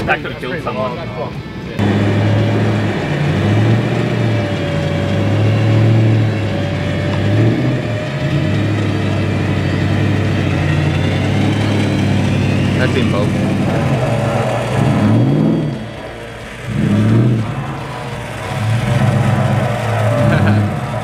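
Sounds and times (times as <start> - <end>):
engine revving under load: 0.0 - 21.0
faint steady whine: 0.0 - 21.0.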